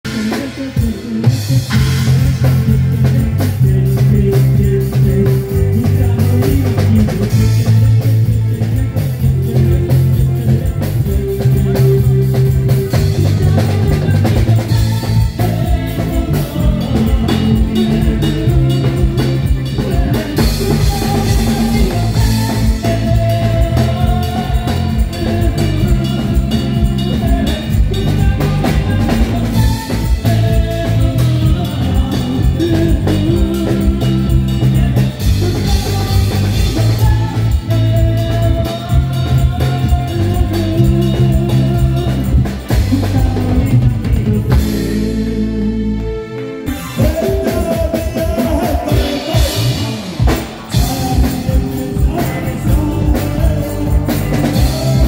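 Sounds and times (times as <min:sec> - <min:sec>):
drum kit beat: 0:00.0 - 0:46.0, 0:46.6 - 0:55.0
bass line: 0:00.0 - 0:55.0
electric guitars: 0:00.0 - 0:55.0
live band playing: 0:00.0 - 0:55.0.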